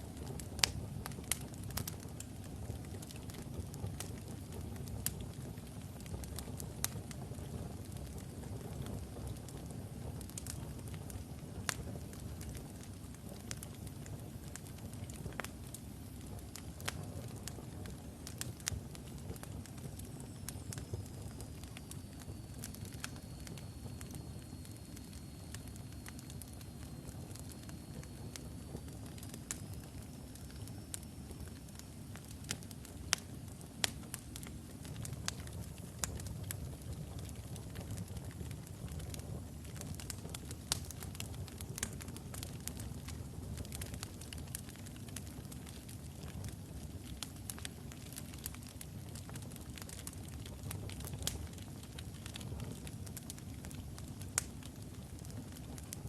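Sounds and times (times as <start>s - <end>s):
fire crackles: 0.0s - 56.0s
low rumble of flames: 0.0s - 56.0s.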